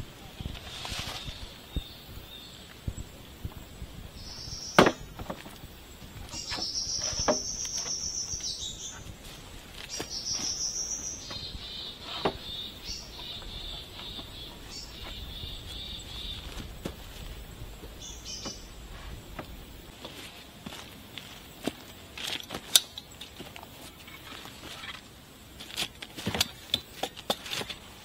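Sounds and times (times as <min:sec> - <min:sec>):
insects buzzing in trills: 0:00.0 - 0:28.0.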